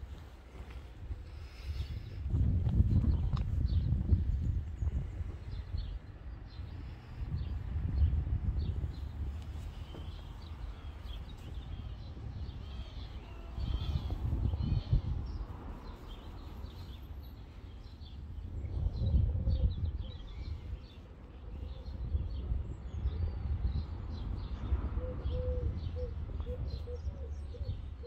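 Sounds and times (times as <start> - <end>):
small birds chirping: 0.2 - 28.0.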